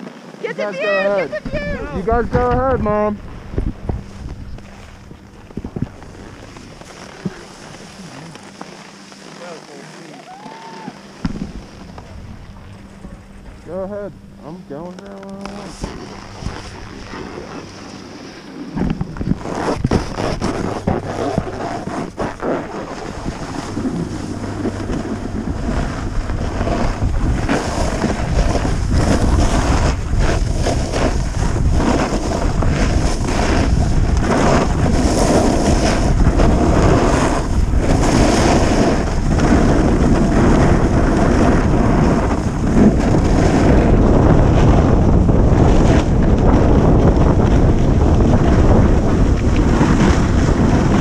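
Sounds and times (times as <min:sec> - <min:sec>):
wind on microphone: 0:00.0 - 0:09.0, 0:10.3 - 0:51.0
skis scraping over snow: 0:00.0 - 0:51.0.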